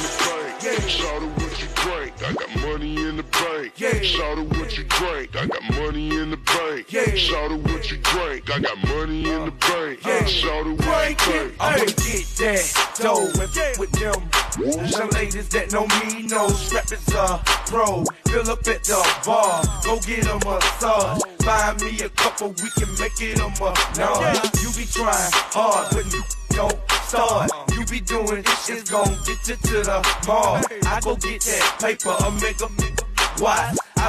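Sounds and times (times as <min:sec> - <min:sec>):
hip hop track: 0:00.0 - 0:34.0.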